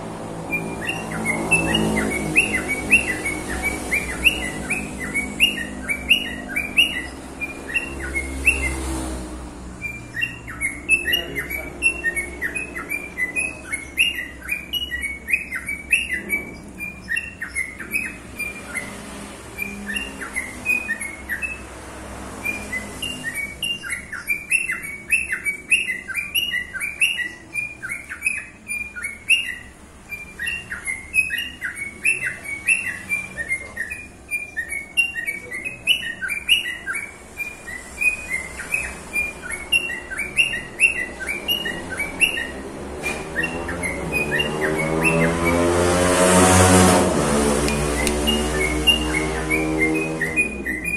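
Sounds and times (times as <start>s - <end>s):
lovebird chirping: 0.0s - 50.9s.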